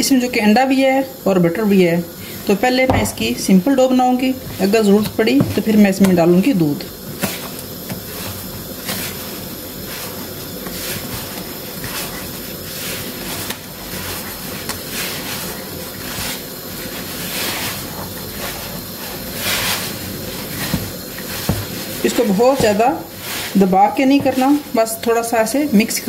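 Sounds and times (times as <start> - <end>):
steady hiss: 0.0 - 26.0
hand mixing dough in plastic bowl: 0.1 - 26.0.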